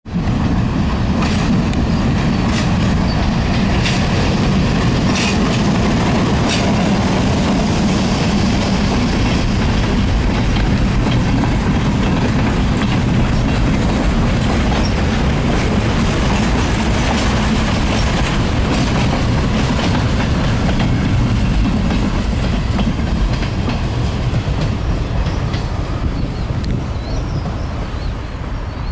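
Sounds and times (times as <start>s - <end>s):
train rumbling along rails: 0.0s - 28.9s
wheels clicking over rail joints: 0.1s - 27.7s.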